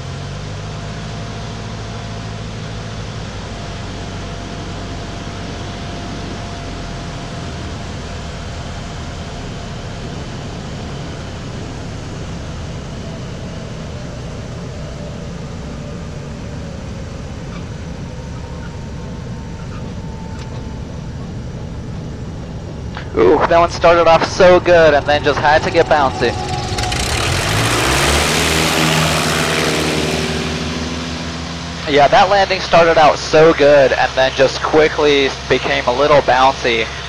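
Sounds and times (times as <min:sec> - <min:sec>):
airplane engine drone: 0:00.0 - 0:37.0.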